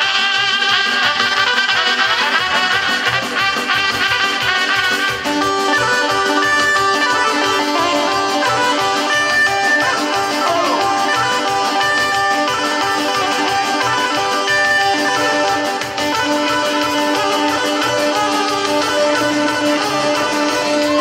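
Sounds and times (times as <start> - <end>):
fast folk dance music: 0.0 - 21.0.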